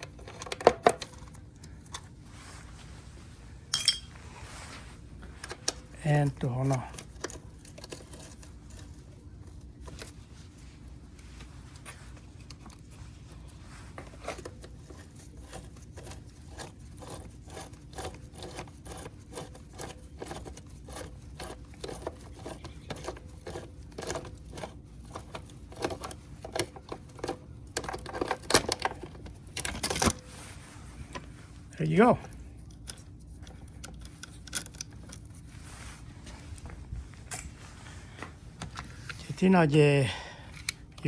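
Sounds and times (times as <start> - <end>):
small clicks and scrapes: 0.0 - 2.9, 4.6 - 31.6, 32.3 - 39.3
low steady hum: 0.0 - 41.0.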